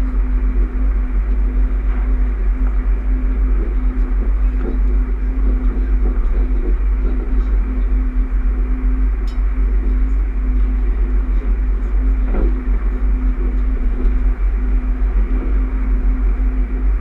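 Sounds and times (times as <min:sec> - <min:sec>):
constant low hum: 0:00.0 - 0:17.0
train wheels rumbling on track: 0:01.3 - 0:17.0.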